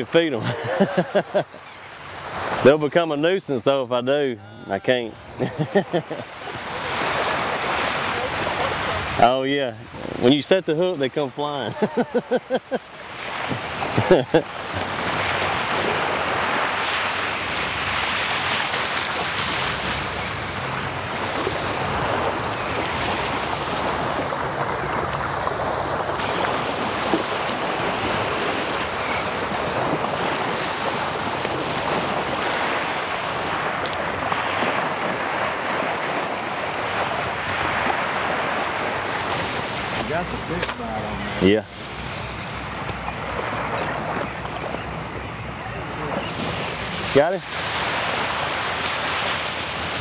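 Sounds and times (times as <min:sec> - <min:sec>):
surf breaking on beach: 0:02.2 - 0:50.0.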